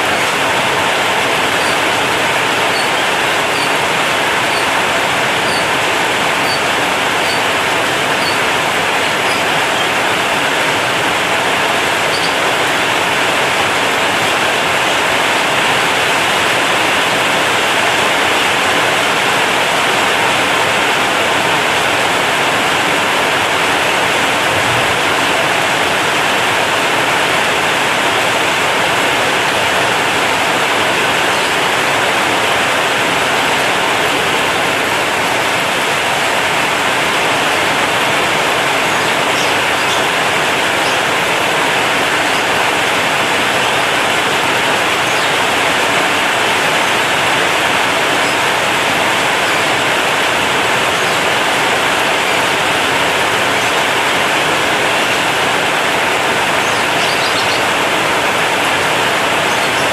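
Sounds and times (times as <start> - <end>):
heavy rain on metal roof: 0.0 - 59.9.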